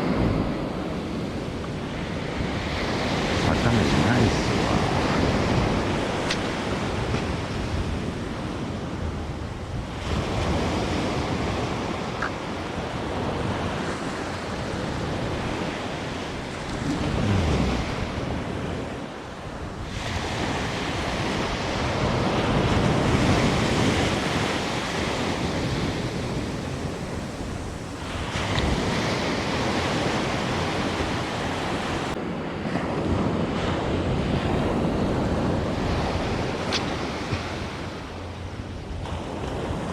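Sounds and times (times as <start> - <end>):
waves breaking on sandy beach: 0.0 - 39.9
wind buffeting microphone: 0.0 - 39.9.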